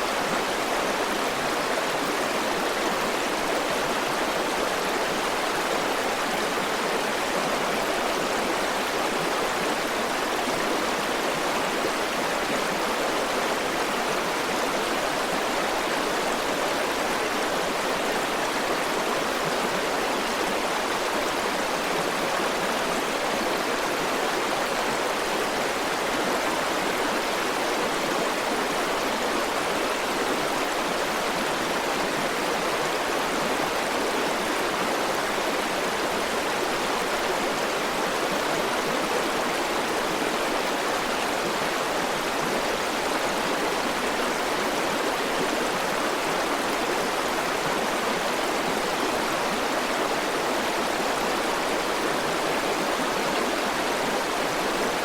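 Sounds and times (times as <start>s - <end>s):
river water flowing over rocks: 0.0s - 55.0s.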